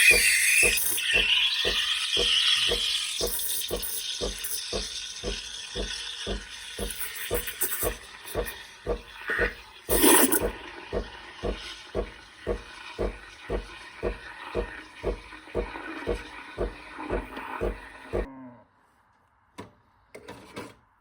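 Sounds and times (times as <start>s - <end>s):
espresso machine hiss: 0.0s - 18.3s
espresso machine pump pulsing: 0.0s - 18.3s.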